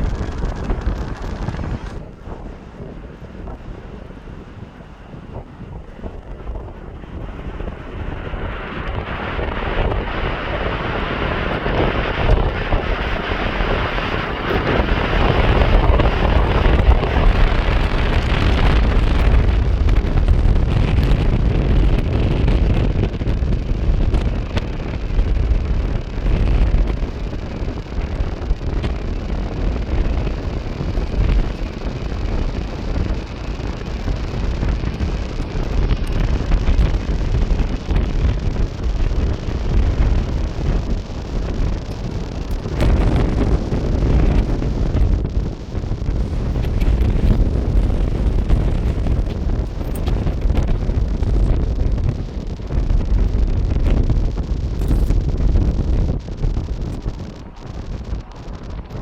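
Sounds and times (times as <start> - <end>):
jet engines passing: 0.0 - 59.0
wind rumble on microphone: 0.0 - 59.0.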